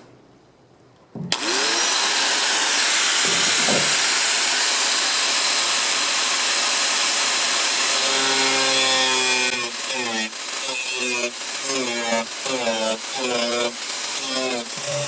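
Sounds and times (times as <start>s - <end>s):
electric blower running: 1.3s - 15.0s.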